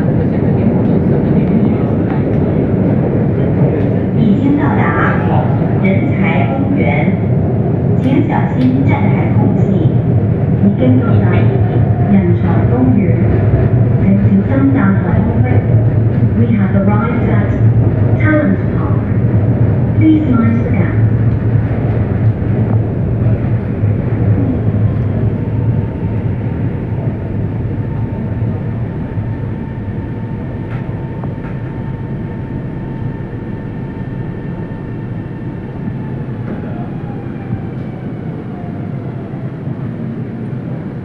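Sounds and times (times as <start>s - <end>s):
train equipment humming: 0.0s - 41.0s.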